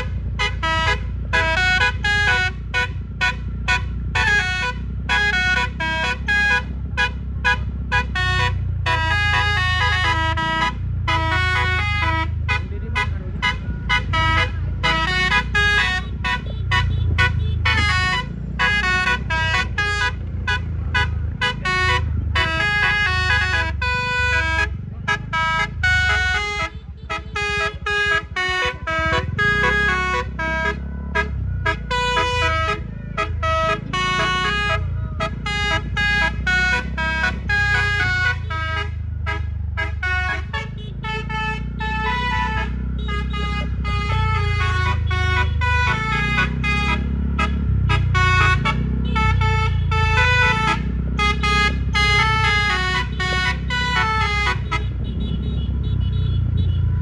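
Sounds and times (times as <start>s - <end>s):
musical air horn melody: 0.0s - 57.0s.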